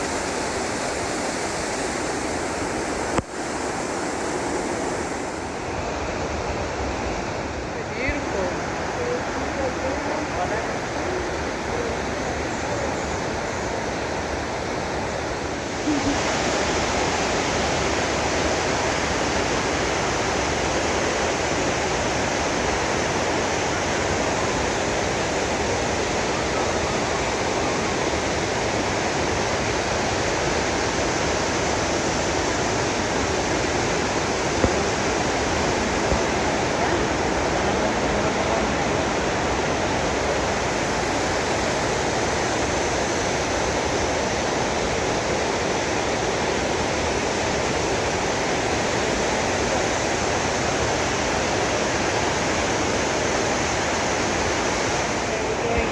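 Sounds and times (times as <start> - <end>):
fast-flowing water rushing: 0.0 - 55.9.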